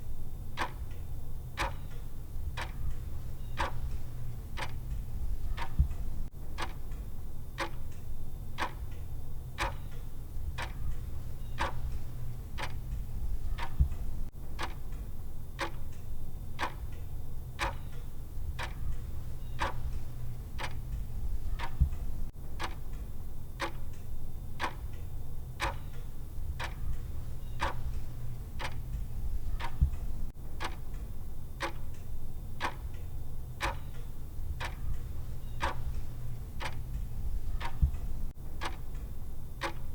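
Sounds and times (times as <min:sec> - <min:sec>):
steady low hum: 0:00.0 - 0:39.9
clock ticking: 0:00.5 - 0:07.0, 0:07.6 - 0:08.0, 0:08.6 - 0:09.0, 0:09.6 - 0:15.0, 0:15.6 - 0:16.0, 0:16.6 - 0:17.0, 0:17.6 - 0:23.0, 0:23.6 - 0:24.0, 0:24.6 - 0:39.9.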